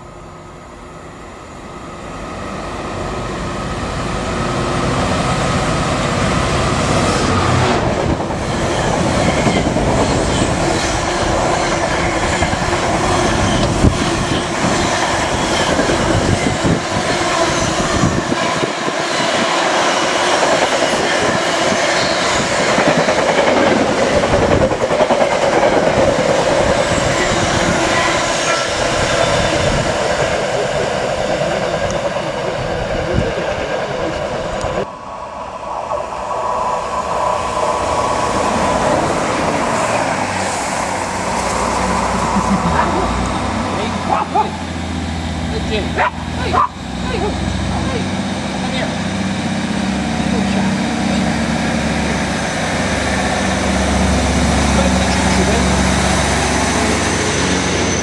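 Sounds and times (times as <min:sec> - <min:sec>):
freight train rumbling and clattering: 0:02.7 - 0:34.9, 0:35.8 - 0:58.0.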